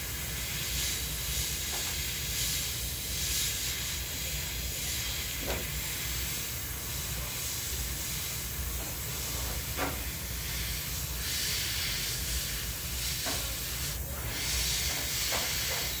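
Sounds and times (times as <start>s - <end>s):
airbrush spraying hiss: 0.0s - 16.0s.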